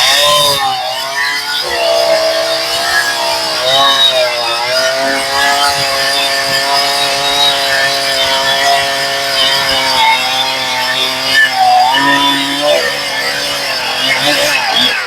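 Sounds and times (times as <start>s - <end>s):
chainsaw cutting through log: 0.0s - 15.0s.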